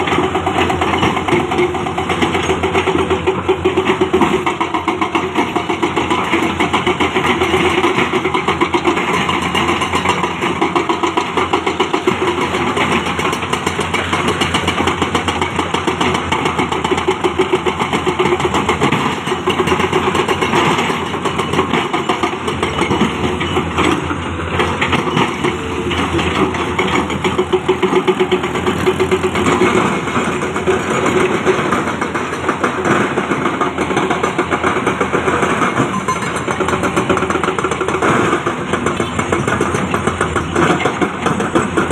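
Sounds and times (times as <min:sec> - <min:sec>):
diesel engine chugging: 0:00.0 - 0:41.9.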